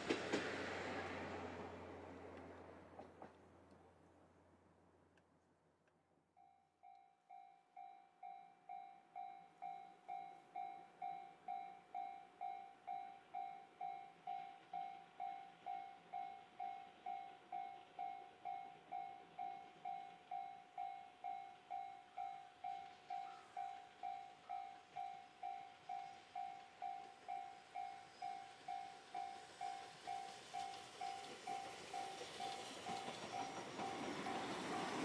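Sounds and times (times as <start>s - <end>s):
steam train approaching: 0.0s - 3.4s, 9.6s - 35.0s
level-crossing warning bell: 6.4s - 35.0s.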